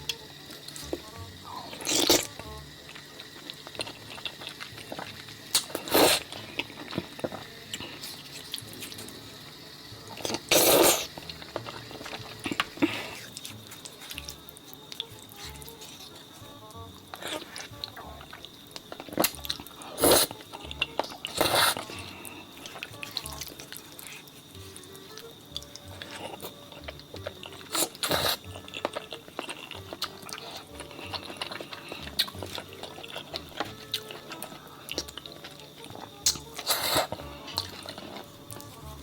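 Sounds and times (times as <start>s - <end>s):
wet chewing and slurping: 0.0s - 38.8s
background music: 0.0s - 39.0s.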